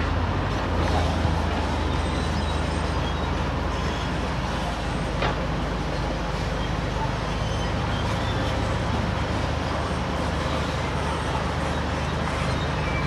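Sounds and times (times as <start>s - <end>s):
heavy machinery diesel engine drone: 0.0s - 13.0s.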